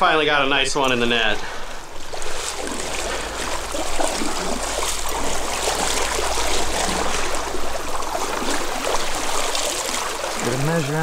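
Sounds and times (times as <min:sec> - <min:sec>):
stream water rushing and splashing: 0:00.2 - 0:11.0.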